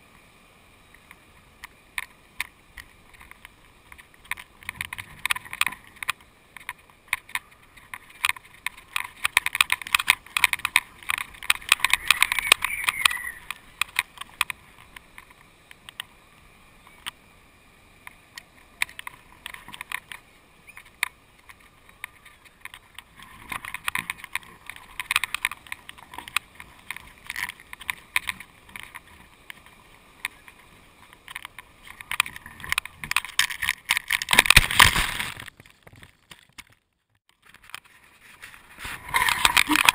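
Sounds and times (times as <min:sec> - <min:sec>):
camera mount rattling in wind: 0:02.0 - 0:16.1, 0:18.0 - 0:39.9.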